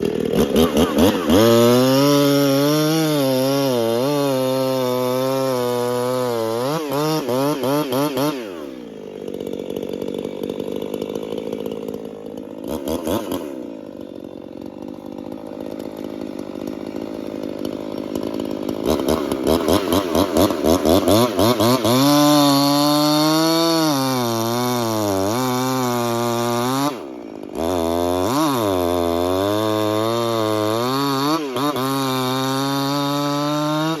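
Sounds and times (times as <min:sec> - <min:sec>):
chainsaw revving under load: 0:00.0 - 0:34.0.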